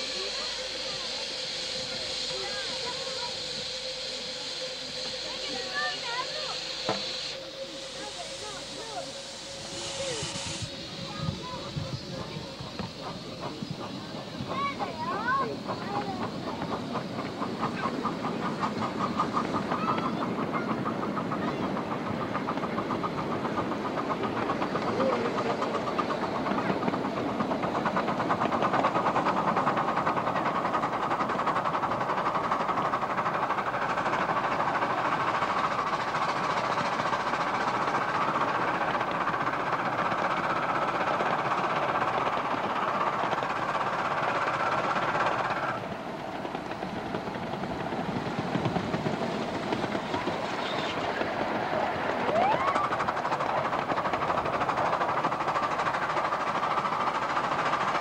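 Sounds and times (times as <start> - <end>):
miniature steam locomotive running: 0.0 - 58.0.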